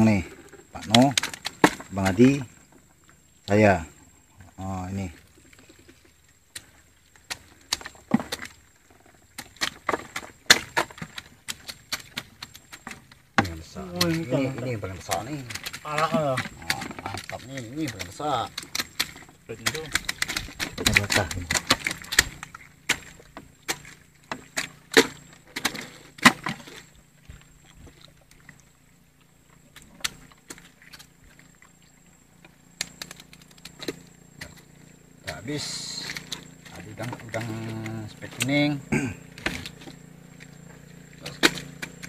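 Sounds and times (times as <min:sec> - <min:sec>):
prawns clicking and knocking: 0:00.0 - 0:03.6, 0:04.4 - 0:42.0.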